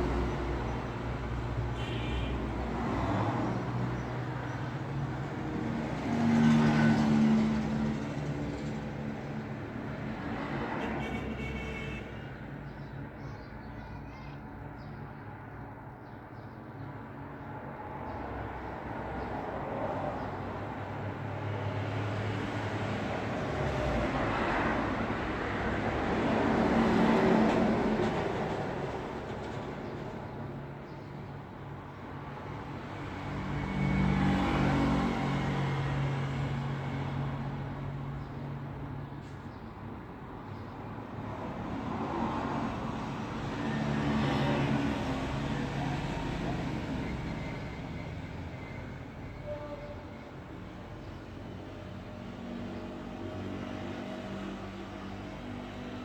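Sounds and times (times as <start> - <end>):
vehicles passing: 0.0 - 16.2, 16.8 - 56.0.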